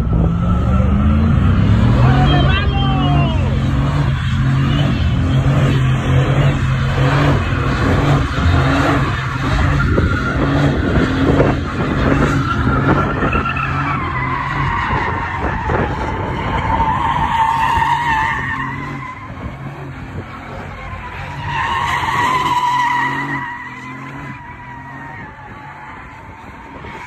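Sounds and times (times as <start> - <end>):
tires squealing on asphalt: 0.0 - 27.0
truck engine revving: 0.0 - 27.0.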